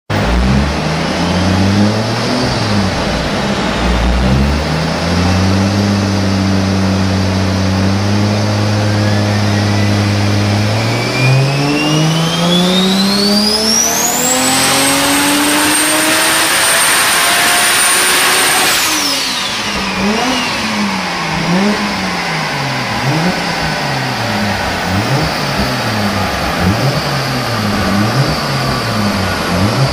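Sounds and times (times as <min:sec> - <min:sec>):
car engine revving: 0:00.1 - 0:29.9
high turbo whistle: 0:00.3 - 0:29.9.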